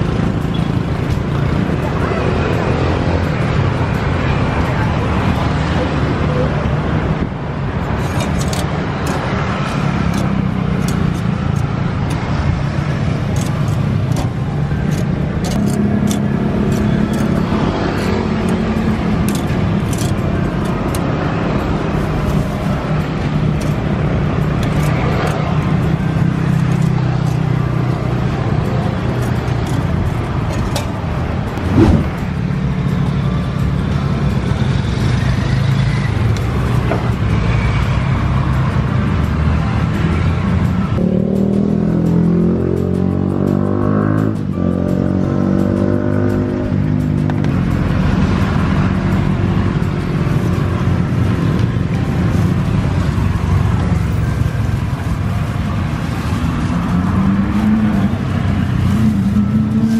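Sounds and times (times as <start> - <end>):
traffic engine hum: 0.0 - 59.9.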